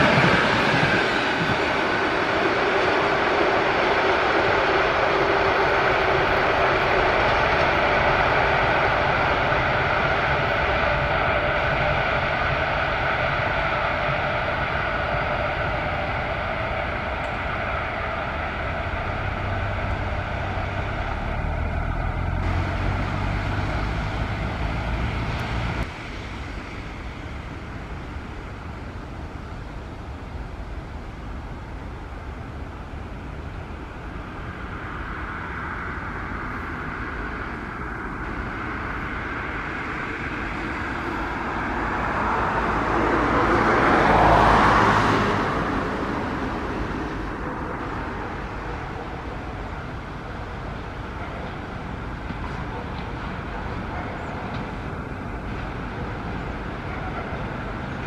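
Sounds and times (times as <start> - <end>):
train passing rumble: 0.0 - 58.0.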